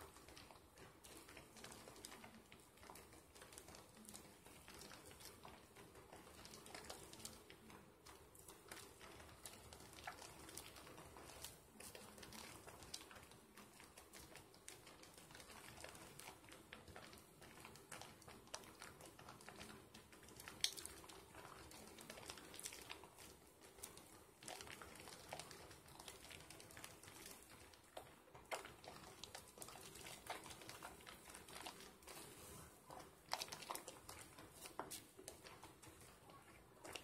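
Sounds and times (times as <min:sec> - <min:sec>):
soapy hands squishing lather: 0:00.0 - 0:37.0.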